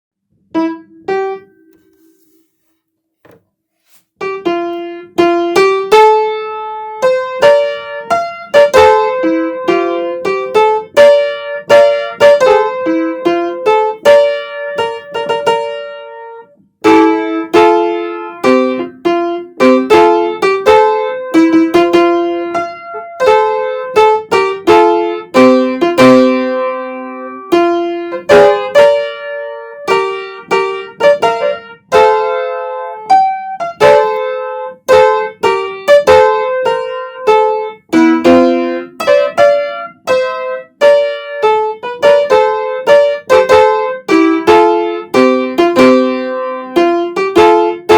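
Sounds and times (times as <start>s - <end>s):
piano melody over chords: 0.4s - 1.8s, 4.2s - 47.9s.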